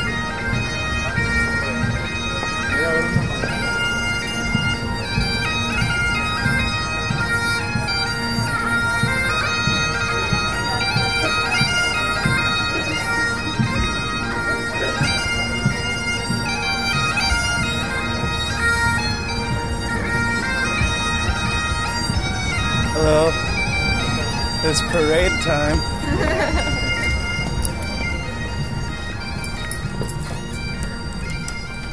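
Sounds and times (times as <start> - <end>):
bagpipes playing a tune: 0.0 - 31.9.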